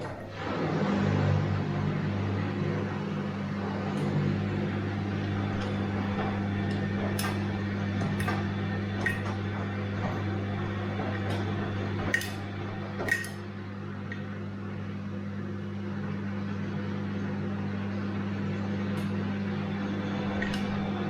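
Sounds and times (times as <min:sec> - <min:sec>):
washing machine churning: 0:00.0 - 0:21.0.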